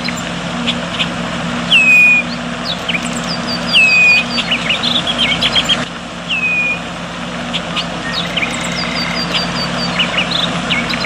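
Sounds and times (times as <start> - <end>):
bird whistle: 0.0 - 11.0
birds chirping: 0.0 - 11.0
low hum: 0.0 - 11.0.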